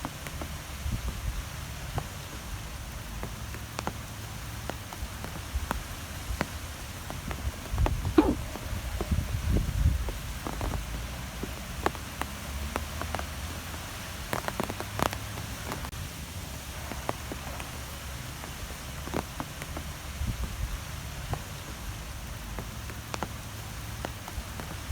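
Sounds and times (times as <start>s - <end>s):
light ticks: 0.0s - 8.4s, 10.1s - 15.9s, 18.4s - 24.9s.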